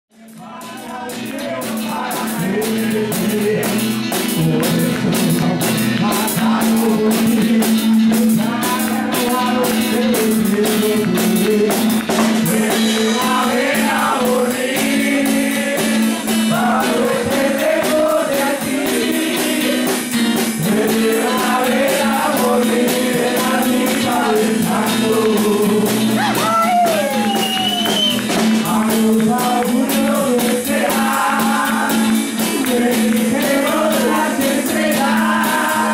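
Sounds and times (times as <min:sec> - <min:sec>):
drums and cymbals: 0:00.1 - 0:35.9
man singing: 0:00.1 - 0:35.9
acoustic guitar strumming: 0:00.2 - 0:35.9.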